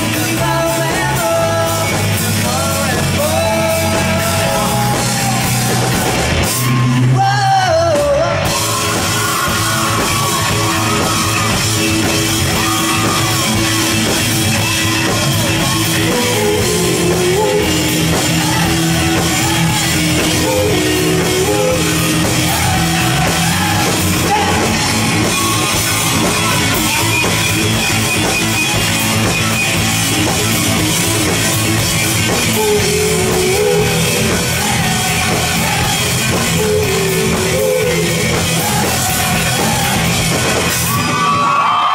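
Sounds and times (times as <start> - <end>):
person singing: 0.0 - 11.6, 14.6 - 28.3, 29.5 - 40.4
live rock band playing: 0.0 - 41.9.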